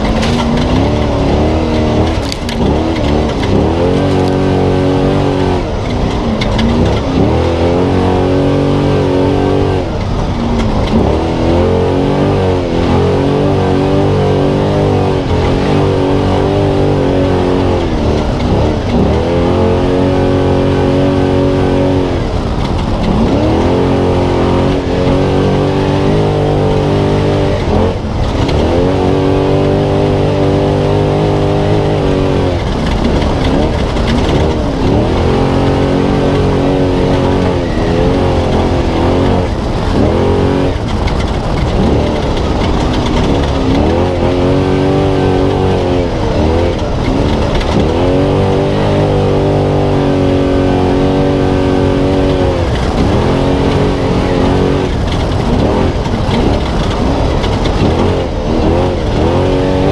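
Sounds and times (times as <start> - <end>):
truck engine revving: 0.0 - 59.9
tyres and chassis rumble: 0.0 - 59.9.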